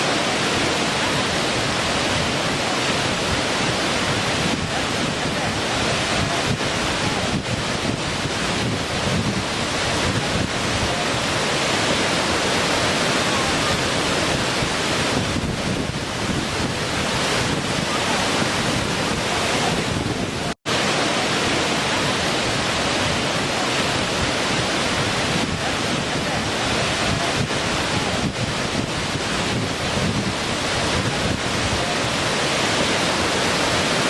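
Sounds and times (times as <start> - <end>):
waterfall pouring and splashing: 0.0 - 34.0.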